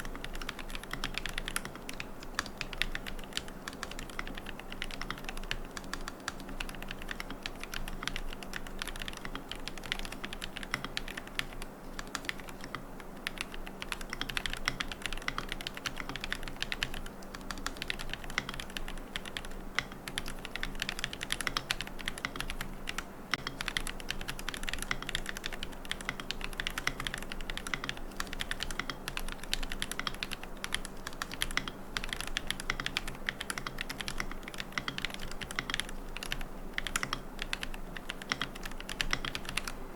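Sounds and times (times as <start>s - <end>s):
mechanical keyboard typing: 0.0s - 39.8s.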